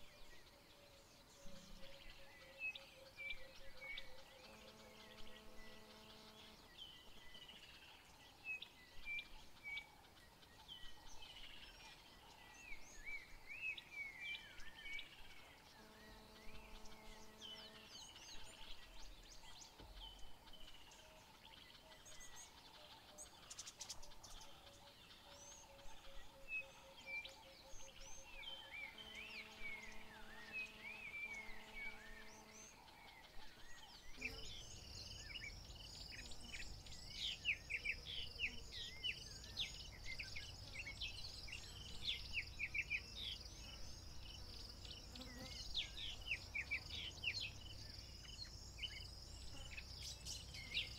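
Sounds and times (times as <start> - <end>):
faint outdoor background noise: 0.0 - 50.9
wild birds chirping: 0.0 - 50.9.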